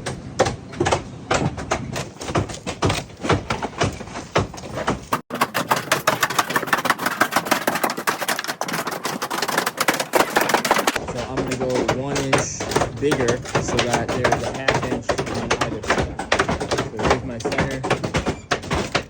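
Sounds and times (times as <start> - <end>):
hand tools clicking and knocking: 0.0 - 19.0.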